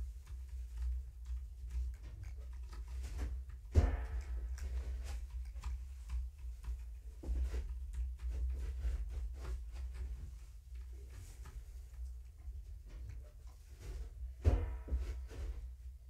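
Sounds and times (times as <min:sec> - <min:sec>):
faint ticks and taps: 0:00.0 - 0:16.0.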